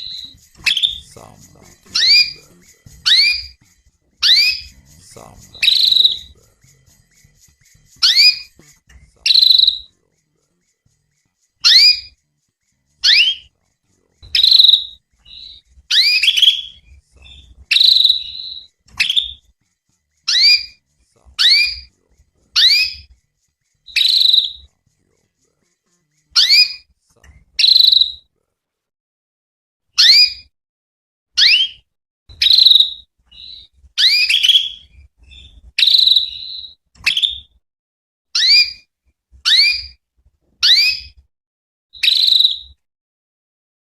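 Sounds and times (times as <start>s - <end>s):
canary chirping: 0.0s - 28.3s, 30.0s - 30.5s, 31.4s - 37.6s, 38.4s - 40.0s, 40.6s - 41.2s, 42.0s - 42.8s.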